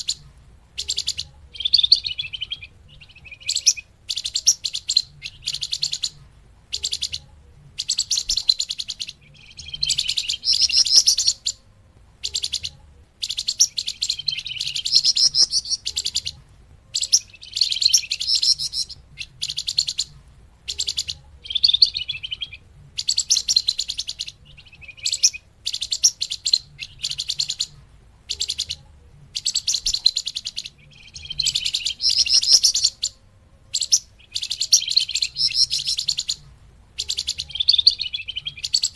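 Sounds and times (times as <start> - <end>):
bird chattering chirps: 0.0 - 11.6, 12.2 - 20.1, 20.7 - 36.4, 37.0 - 38.9.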